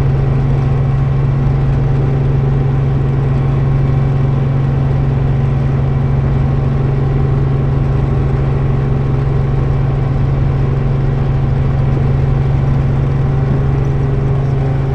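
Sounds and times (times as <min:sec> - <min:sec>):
helicopter engine and rotor drone: 0:00.0 - 0:14.9.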